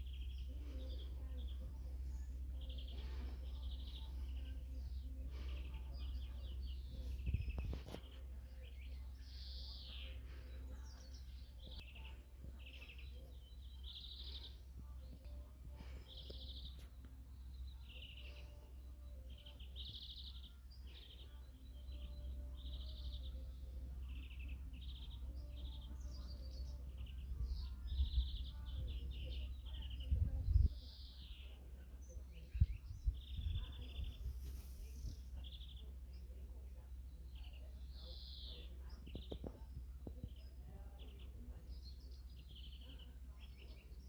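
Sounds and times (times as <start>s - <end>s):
small songbirds singing: 0.0s - 44.0s.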